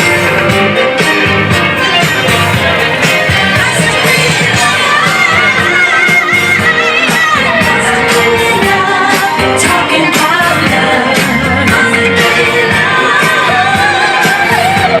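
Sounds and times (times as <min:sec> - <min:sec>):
dance music with singer: 0:00.0 - 0:15.0.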